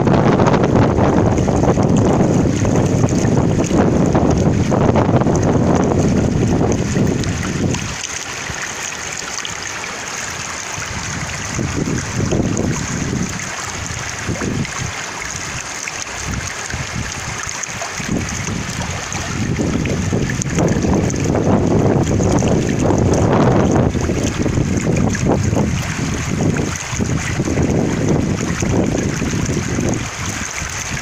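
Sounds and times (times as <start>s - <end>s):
wind buffeting microphone: 0.0s - 9.4s, 10.3s - 31.0s
flowing water hissing: 0.0s - 31.0s.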